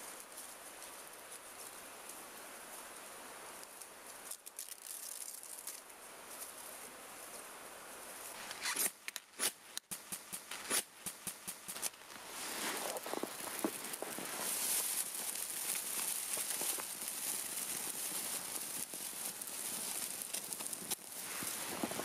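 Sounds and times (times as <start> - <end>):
dry grass rustling: 0.0 - 22.0.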